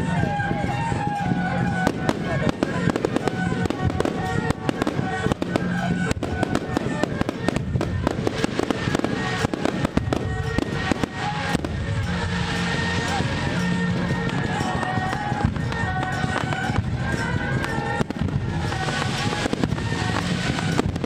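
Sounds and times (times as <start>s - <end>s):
fireworks cracking and banging: 0.0s - 21.0s
music of long held notes: 0.0s - 21.0s.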